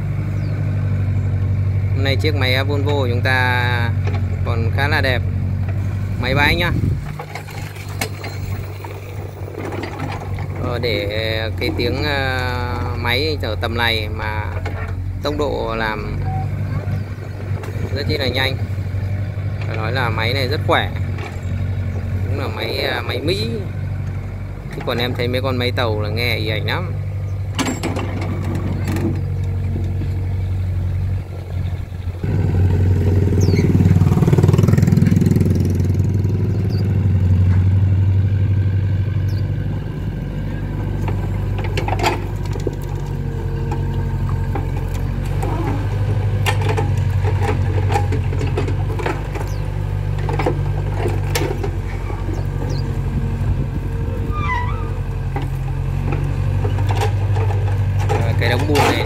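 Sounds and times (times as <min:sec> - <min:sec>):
excavator diesel engine running: 0:00.0 - 0:59.0
digging knocks and clanks: 0:02.7 - 0:04.9, 0:05.6 - 0:36.4, 0:39.7 - 0:59.0.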